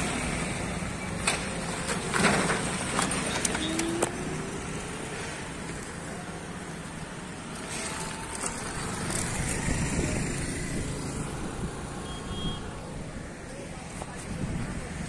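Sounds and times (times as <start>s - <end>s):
hum of traffic: 0.0s - 15.0s
motorcycles passing close by: 0.0s - 15.0s.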